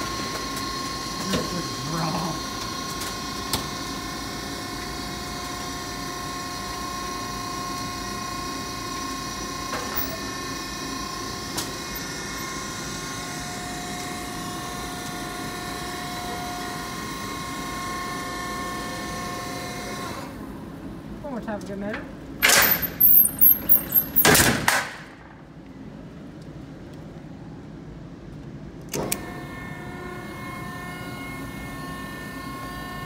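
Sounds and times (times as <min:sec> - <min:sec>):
hydraulic machine hum and whine: 0:00.0 - 0:21.2, 0:22.1 - 0:24.3, 0:25.0 - 0:33.0.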